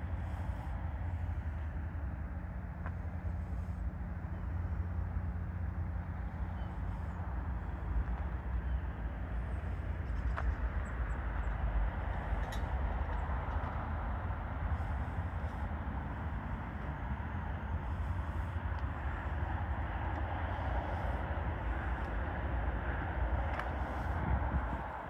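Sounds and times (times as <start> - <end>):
low rumble and hiss: 0.0 - 25.0.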